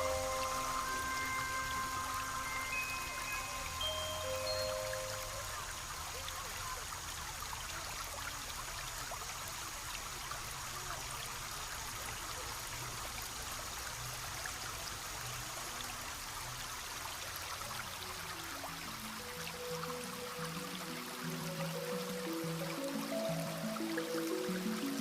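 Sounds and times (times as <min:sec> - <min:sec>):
stream trickling and burbling: 0:00.0 - 0:25.0.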